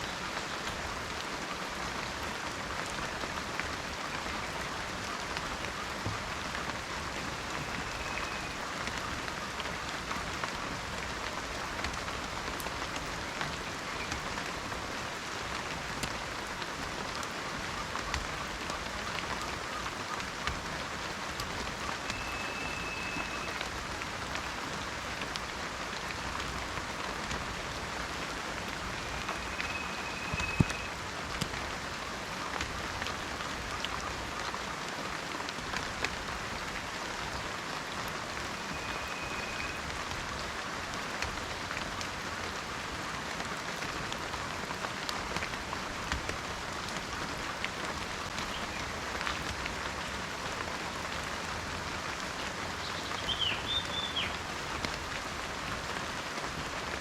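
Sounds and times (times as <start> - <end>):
rain falling in a forest: 0.0 - 57.0.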